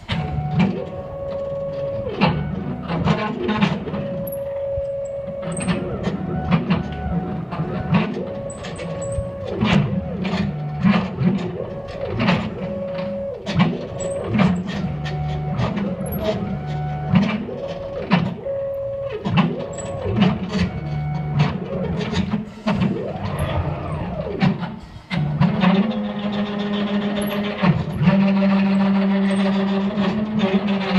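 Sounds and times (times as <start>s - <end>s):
stepper motors whining: 0.0s - 30.9s.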